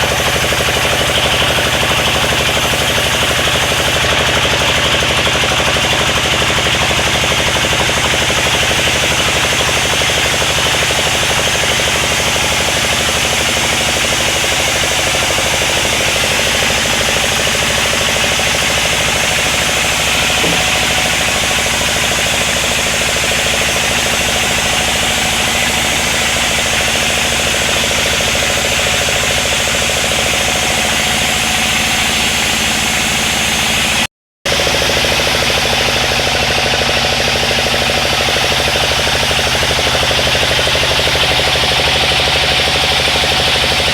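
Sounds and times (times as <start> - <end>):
sawmill machinery droning: 0.0 - 43.9.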